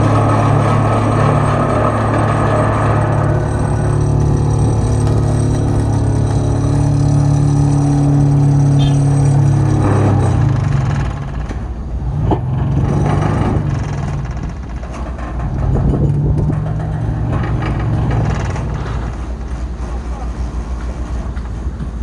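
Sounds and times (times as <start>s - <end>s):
pile driver machinery droning: 0.0s - 22.0s.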